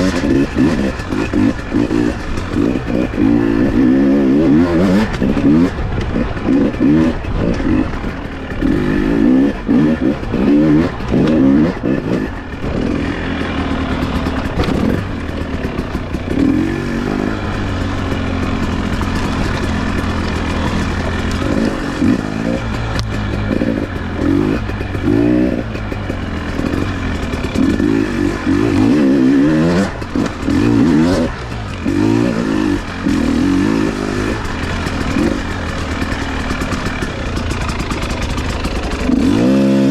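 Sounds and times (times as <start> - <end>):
clatter of the ride: 0.0 - 39.9
motorcycle engine revving: 0.0 - 39.9.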